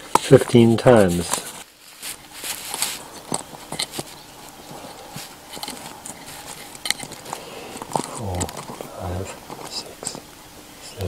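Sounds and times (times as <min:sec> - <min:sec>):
clicks and scrapes of rod turning: 0:00.0 - 0:08.9.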